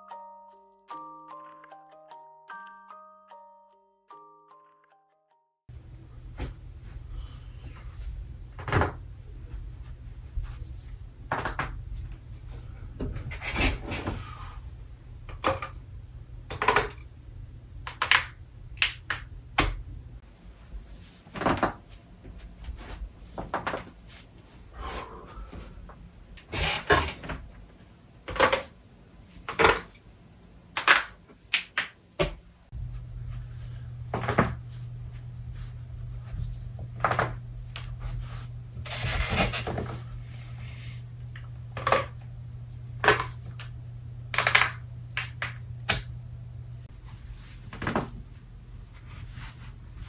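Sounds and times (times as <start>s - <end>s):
steady low hum: 5.7s - 29.3s, 32.5s - 50.0s.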